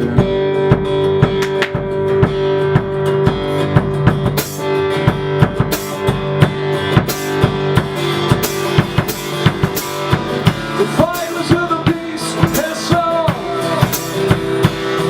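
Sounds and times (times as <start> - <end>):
drums keeping a steady beat: 0.0 - 15.0
electric guitar: 0.0 - 15.0.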